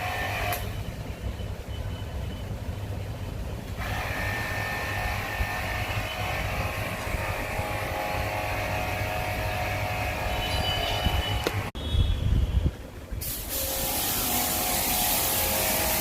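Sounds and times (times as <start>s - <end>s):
low throbbing mechanical hum: 0.0s - 16.0s.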